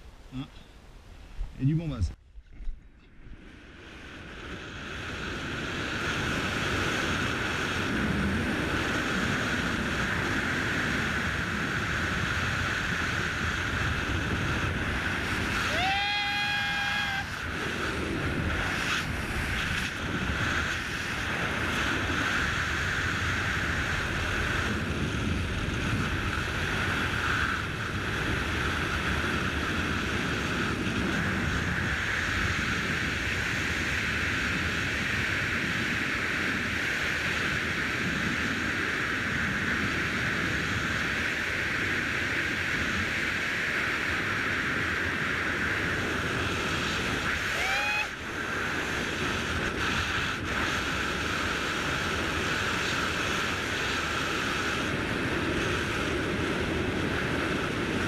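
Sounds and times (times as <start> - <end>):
wind rushing past helmet camera: 0.0 - 58.0.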